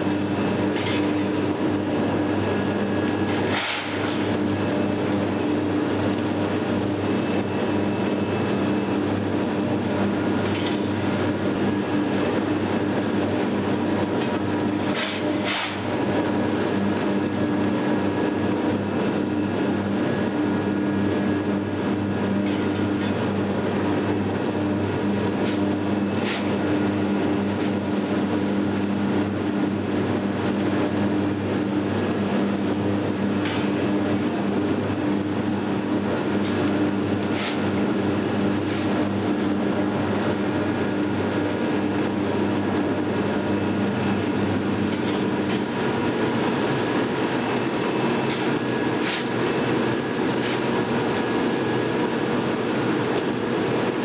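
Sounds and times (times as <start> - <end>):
loud industrial hum: 0.0 - 54.0.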